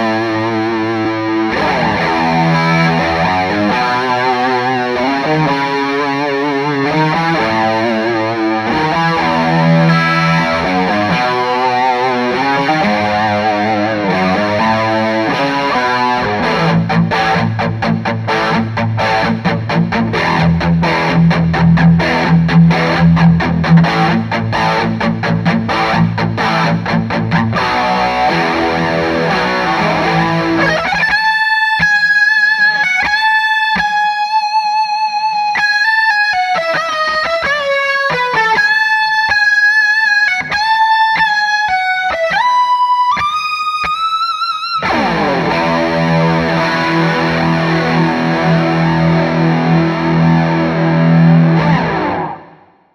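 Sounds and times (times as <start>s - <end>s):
electric guitar with chorus: 0.0s - 52.9s.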